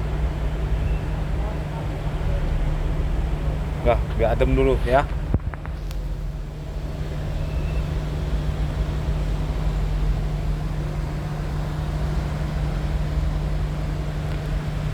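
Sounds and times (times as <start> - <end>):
low mechanical hum and rumble: 0.0 - 14.9.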